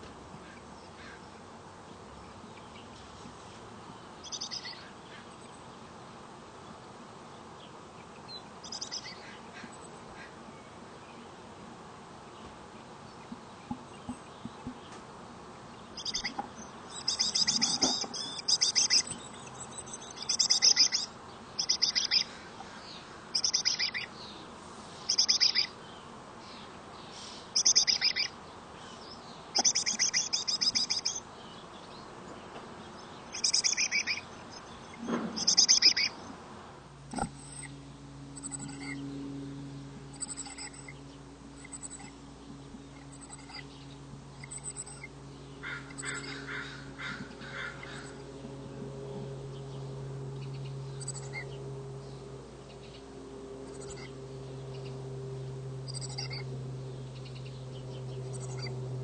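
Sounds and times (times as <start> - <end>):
faint low hum: 0.0 - 59.0
chickadees calling: 3.9 - 5.9, 7.4 - 11.3, 15.7 - 36.4, 37.1 - 55.0, 55.8 - 59.0.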